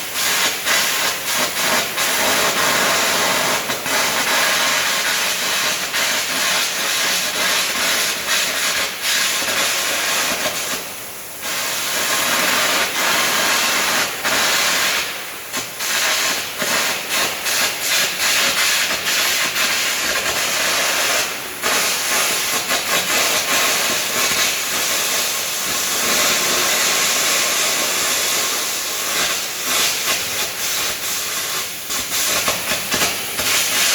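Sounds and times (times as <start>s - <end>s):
crackling arc hiss: 0.0s - 33.9s.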